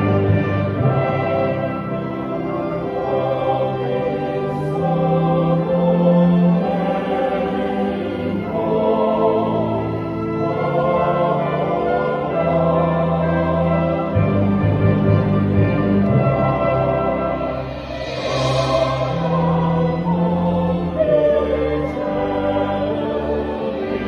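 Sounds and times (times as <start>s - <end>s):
choir singing a hymn: 0.0s - 24.0s
instrumental ensemble: 0.0s - 24.0s.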